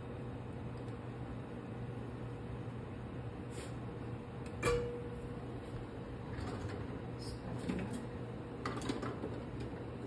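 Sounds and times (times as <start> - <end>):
kitchen hum and hiss: 0.0 - 10.0.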